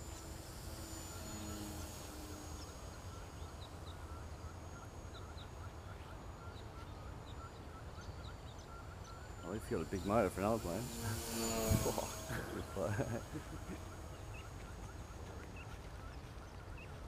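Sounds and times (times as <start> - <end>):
birds chirping: 0.0 - 17.0
model plane motor droning: 0.0 - 17.0.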